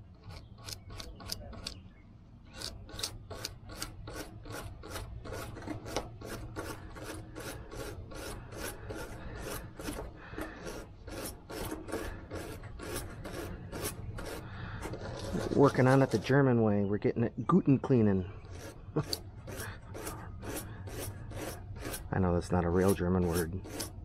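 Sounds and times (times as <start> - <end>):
brush scrubbing metal part: 2.6 - 16.4, 18.4 - 24.0.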